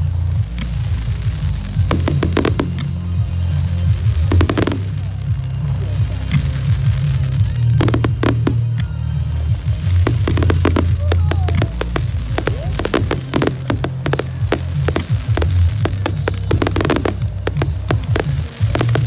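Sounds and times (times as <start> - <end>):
heavy low rumble: 0.0 - 19.0
fireworks bangs: 0.4 - 19.0.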